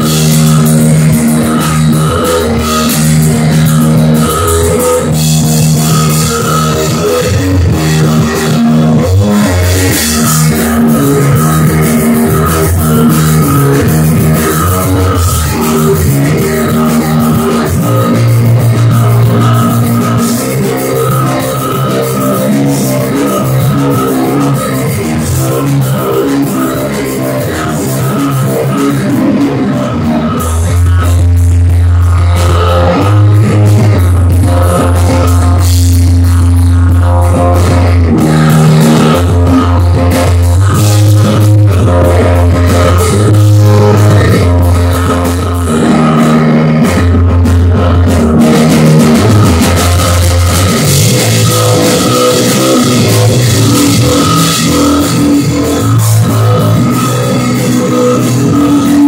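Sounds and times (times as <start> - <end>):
held bass notes: 0.0 - 59.0
live rock band playing: 0.0 - 59.0.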